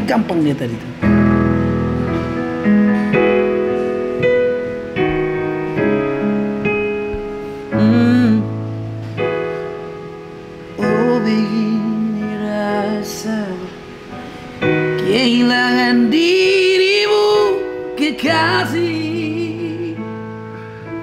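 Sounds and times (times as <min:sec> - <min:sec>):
digital piano chords: 0:00.0 - 0:21.0.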